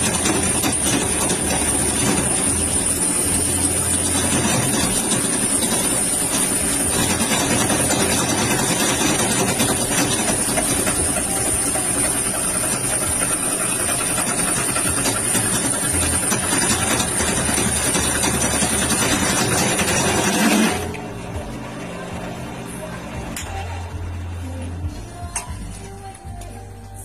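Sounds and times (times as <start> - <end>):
sewing machine clatter and whine: 0.0 - 24.7.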